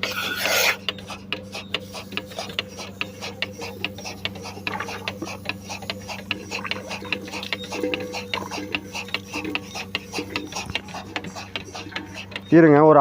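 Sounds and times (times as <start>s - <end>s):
milking machine pulsator clicking: 0.0s - 13.0s
vacuum pump hum: 0.0s - 13.0s.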